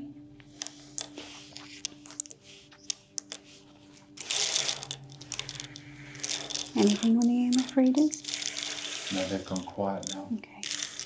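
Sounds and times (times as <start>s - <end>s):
tiles shuffled across table: 0.5s - 11.0s.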